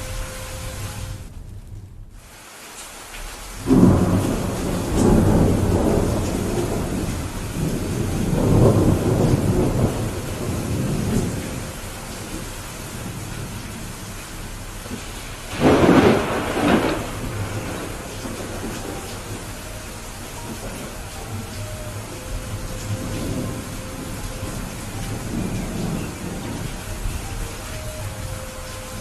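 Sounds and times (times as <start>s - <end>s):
steady rain falling: 0.0s - 29.0s
thunder claps and rumbling: 3.6s - 29.0s.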